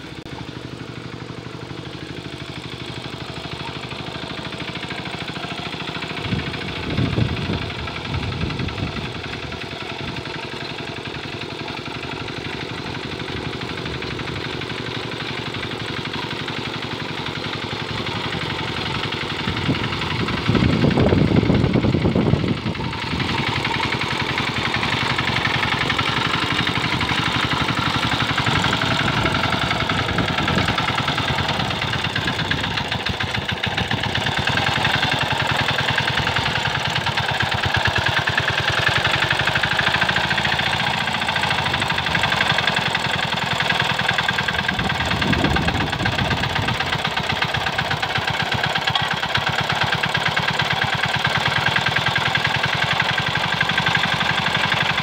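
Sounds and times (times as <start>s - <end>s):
tractor engine knocking: 0.0s - 55.0s.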